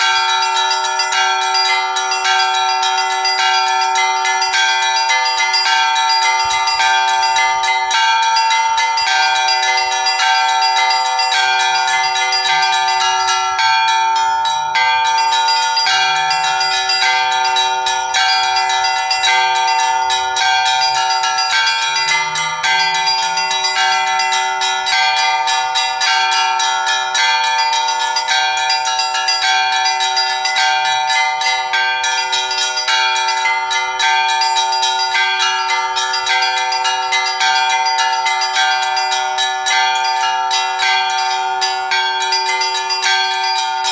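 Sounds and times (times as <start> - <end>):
large bells ringing: 0.0 - 43.9
small bells struck rapidly: 0.0 - 43.9.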